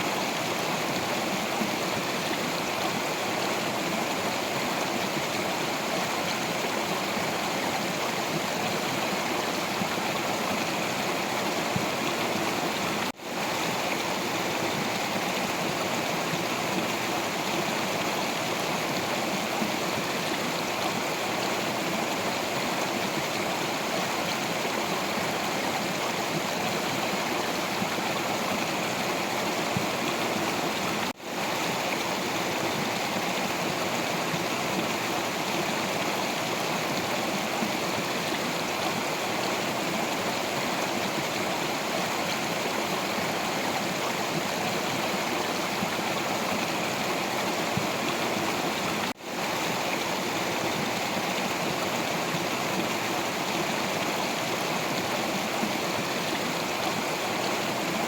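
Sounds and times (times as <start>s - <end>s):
stream water running over rocks: 0.0s - 58.0s.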